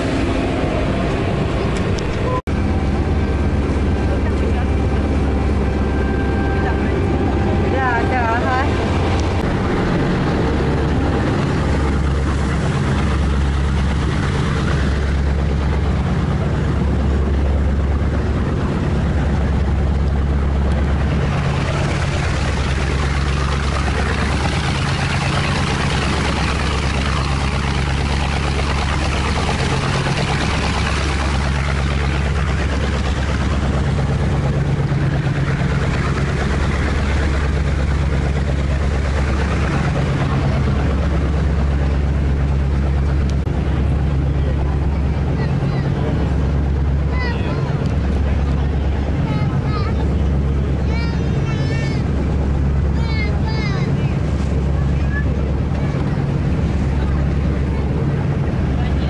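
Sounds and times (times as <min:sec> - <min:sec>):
boat engine drone: 0:00.0 - 0:59.0
rushing water wash: 0:00.0 - 0:59.0.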